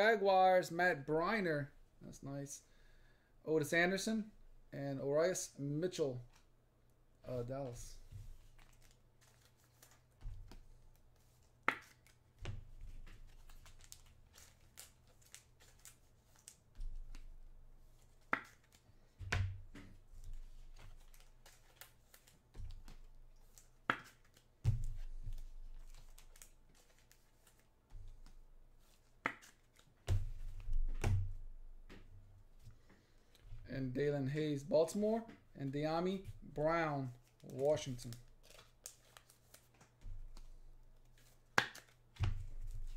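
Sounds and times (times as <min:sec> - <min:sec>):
cards and packaging rustling: 0:07.5 - 0:33.6, 0:34.2 - 0:42.9.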